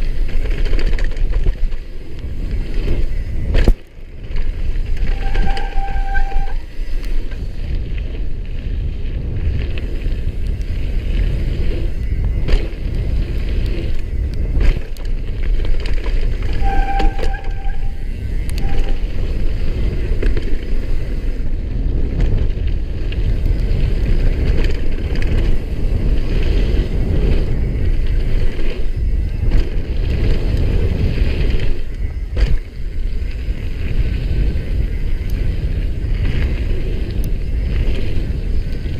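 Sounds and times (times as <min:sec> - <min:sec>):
bike knocking and rattling: 0:00.0 - 0:38.9
bike tyres rumbling on gravel: 0:00.0 - 0:38.9
wind: 0:00.0 - 0:38.9.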